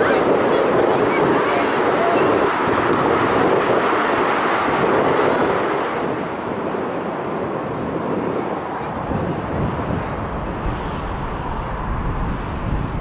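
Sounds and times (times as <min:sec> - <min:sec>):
jet airliner engine passing overhead: 0:00.0 - 0:13.0
wind noise on microphone: 0:00.0 - 0:13.0.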